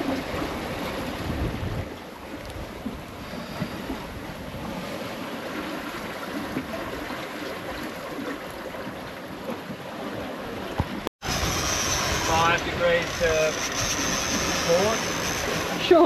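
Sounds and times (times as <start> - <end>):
water splashing past boat hull: 0.0 - 16.0.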